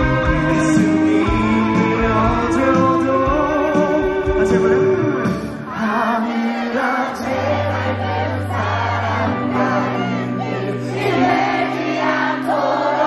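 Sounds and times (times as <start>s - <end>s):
crowd singing together: 0.0s - 13.0s
live band playing: 0.0s - 13.0s.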